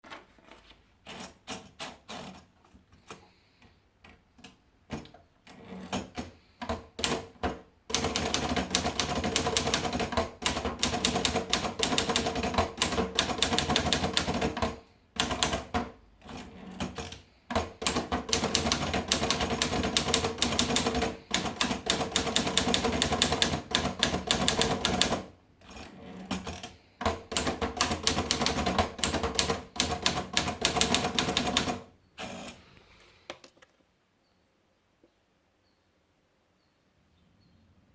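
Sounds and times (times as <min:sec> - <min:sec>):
manual typewriter typing: 0:00.0 - 0:03.2, 0:04.4 - 0:32.7.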